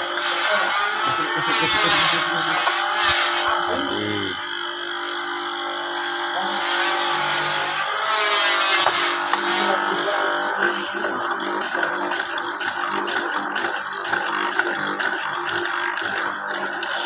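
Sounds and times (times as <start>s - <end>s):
power tool whirring on wood: 0.0s - 17.0s.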